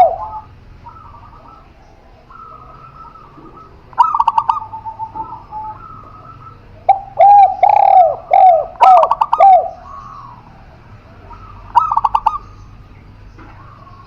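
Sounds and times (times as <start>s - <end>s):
dove low cooing: 0.0s - 14.0s.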